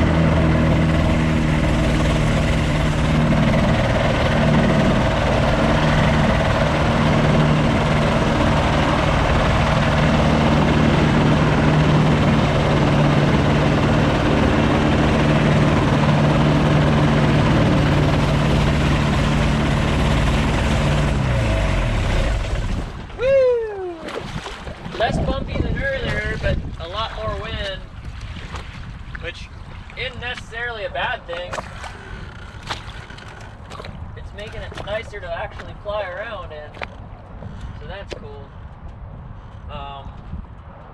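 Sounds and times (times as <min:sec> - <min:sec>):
propeller engine running: 0:00.0 - 0:23.2, 0:28.9 - 0:39.7.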